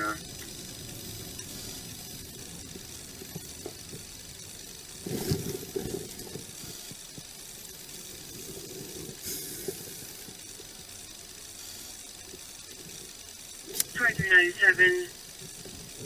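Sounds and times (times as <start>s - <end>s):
car engine low hum: 0.0s - 16.0s.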